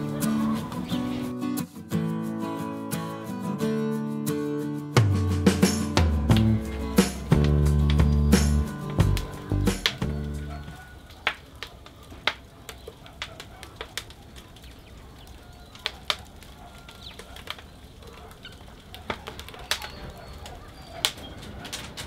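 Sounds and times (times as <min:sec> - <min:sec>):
wood fire crackling: 0:00.0 - 0:03.7, 0:04.9 - 0:22.0.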